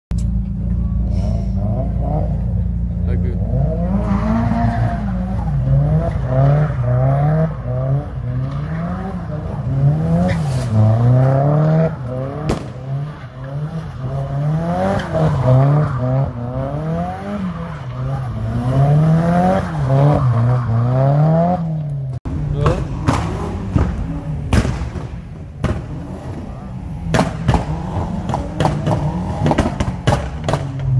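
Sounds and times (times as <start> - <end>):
car engine revving: 1.1 - 30.9.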